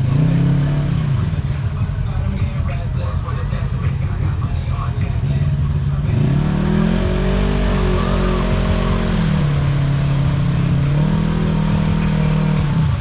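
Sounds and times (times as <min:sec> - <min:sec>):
utility vehicle engine revving: 0:00.0 - 0:13.0.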